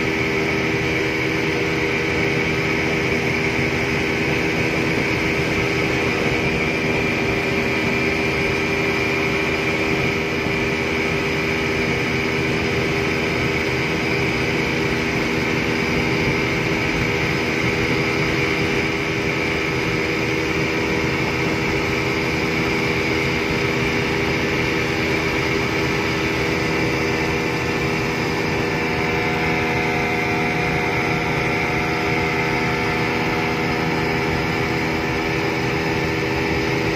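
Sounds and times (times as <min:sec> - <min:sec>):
outboard motor running at high speed: 0:00.0 - 0:36.9.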